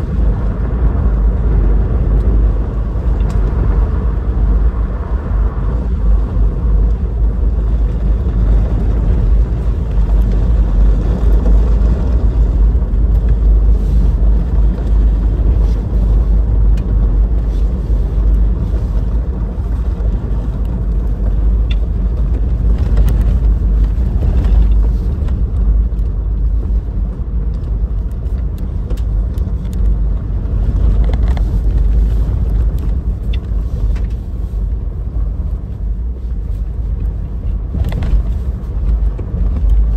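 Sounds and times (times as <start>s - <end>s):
tyres rumbling on dirt: 0.0s - 39.9s.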